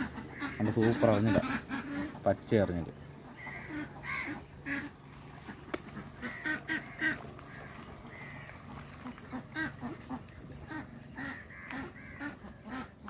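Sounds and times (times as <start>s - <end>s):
waterfowl honking: 0.0s - 2.5s, 3.1s - 13.0s.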